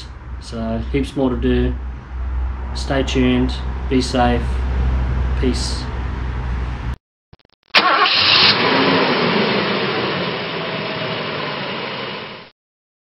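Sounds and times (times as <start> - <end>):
car engine starting and running: 0.0 - 7.0, 7.8 - 12.5.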